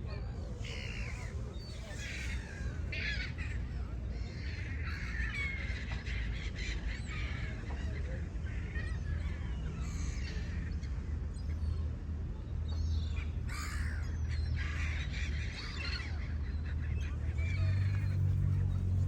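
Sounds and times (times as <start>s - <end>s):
seagulls calling: 0.4s - 10.6s, 13.2s - 19.0s.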